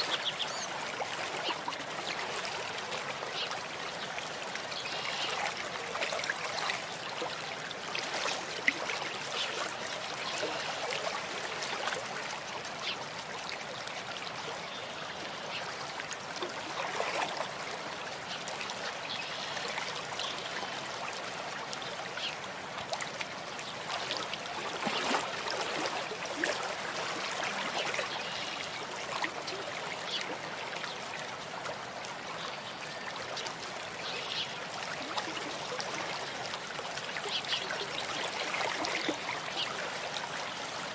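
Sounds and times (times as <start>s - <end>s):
stream trickling: 0.0s - 40.9s
water drips and splashes: 0.0s - 40.9s.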